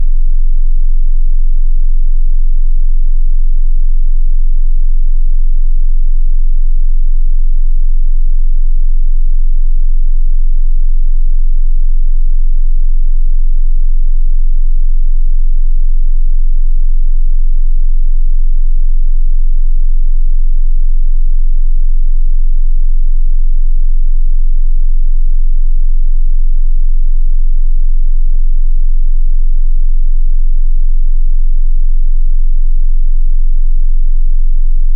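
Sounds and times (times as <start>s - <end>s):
deep bass sine tone: 0.0s - 34.9s.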